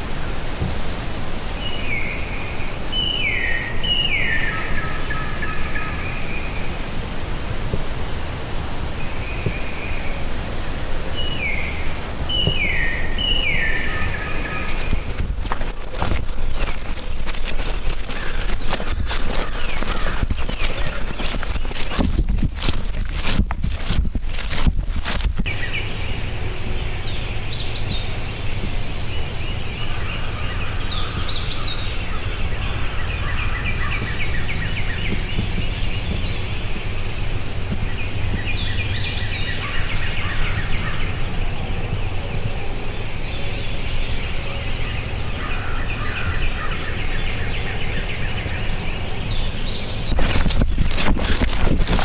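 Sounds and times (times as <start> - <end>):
songbirds chirping: 0.0 - 22.8, 25.5 - 52.0
steady low rumble: 0.0 - 52.0.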